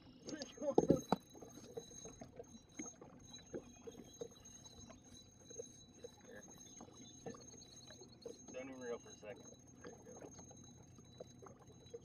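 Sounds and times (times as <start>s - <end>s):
thin high whine: 0.1s - 12.0s
water lapping: 0.2s - 12.0s.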